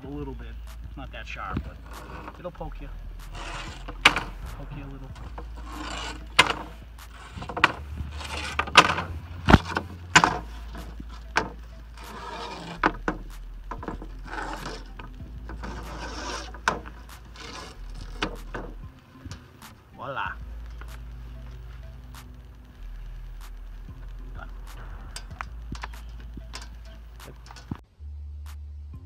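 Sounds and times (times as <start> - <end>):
metal mesh crinkling: 0.0 - 27.8
sharp clicks and knocks: 0.0 - 27.8.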